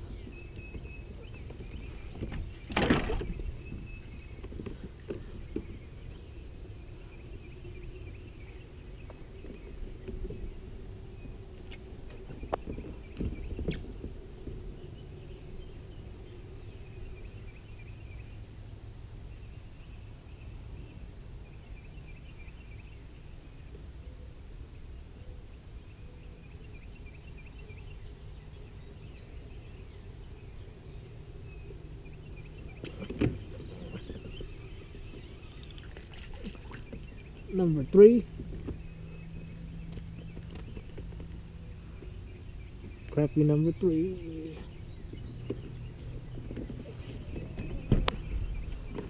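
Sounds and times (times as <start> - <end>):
faint birdsong chirping: 0.0 - 49.0
steady low rumble: 0.0 - 49.0.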